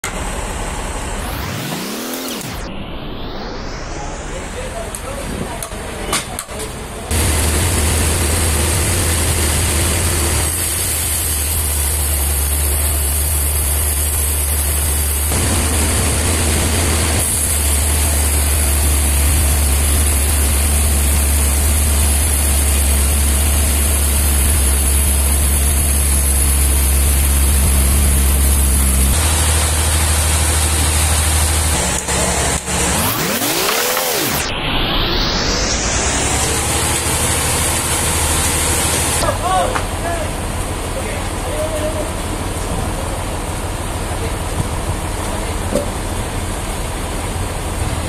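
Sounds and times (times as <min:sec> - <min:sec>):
band sawmill drive hum: 0:00.0 - 0:05.5, 0:07.0 - 0:48.0.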